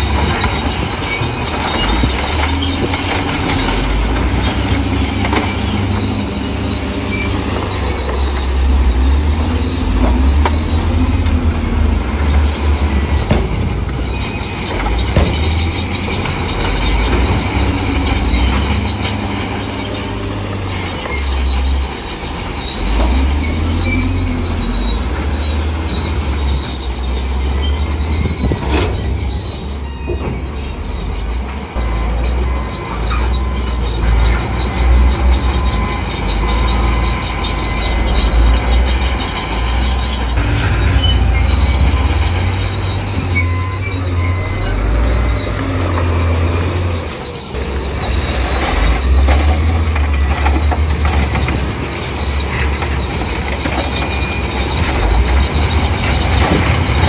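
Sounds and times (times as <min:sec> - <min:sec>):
diesel machinery engine rumble: 0:00.0 - 0:57.0
thin metallic squeal: 0:00.0 - 0:57.0.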